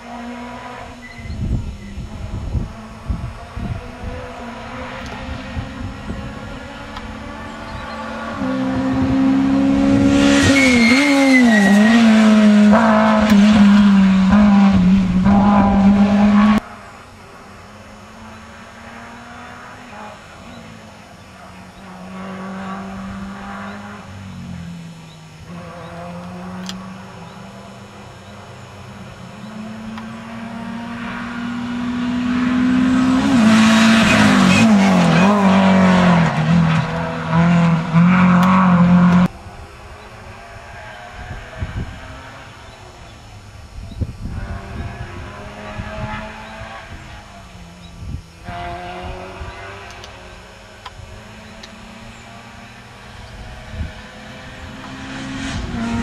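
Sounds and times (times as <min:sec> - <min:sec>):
rally car engine at full throttle: 0:00.0 - 0:56.0.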